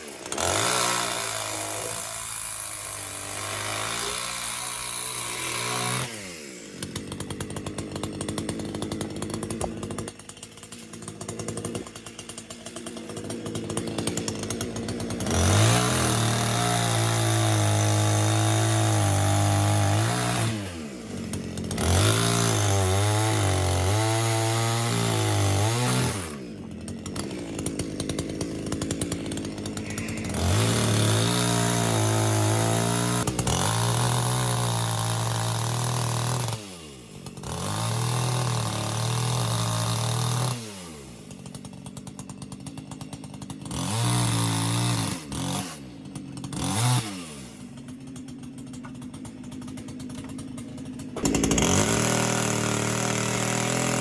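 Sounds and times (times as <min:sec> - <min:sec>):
chainsaw engine revving: 0:00.0 - 0:54.0.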